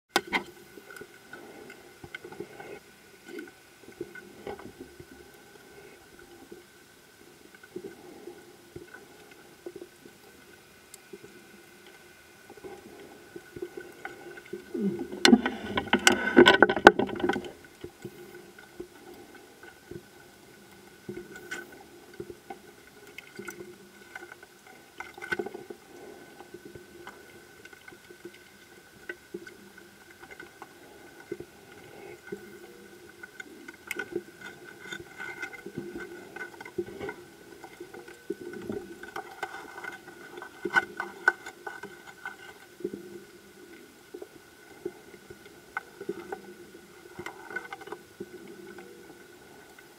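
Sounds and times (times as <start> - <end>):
steady underwater hum: 0.1 - 49.9
underwater clicks and crackles: 0.1 - 49.9.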